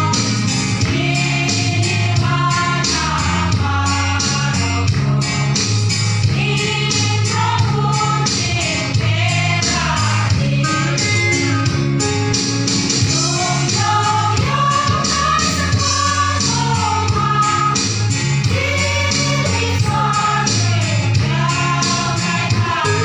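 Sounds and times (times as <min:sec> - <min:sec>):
percussion beat: 0:00.0 - 0:23.0
women's choir singing: 0:00.9 - 0:05.2, 0:06.3 - 0:11.0, 0:13.1 - 0:23.0.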